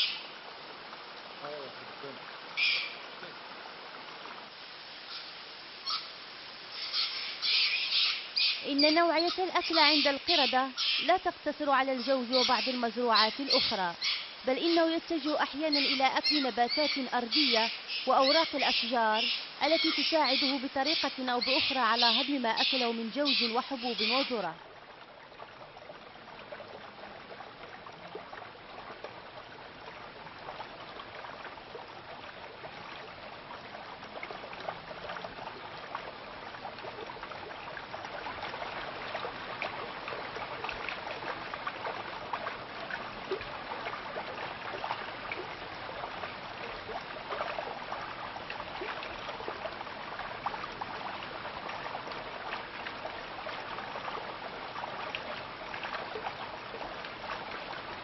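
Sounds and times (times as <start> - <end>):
stream water over rocks: 0.0 - 58.0.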